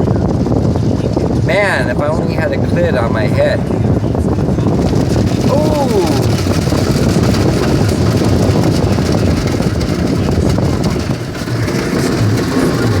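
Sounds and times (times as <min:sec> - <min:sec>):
car wash machinery: 0:00.0 - 0:13.0
low rumble: 0:00.0 - 0:13.0.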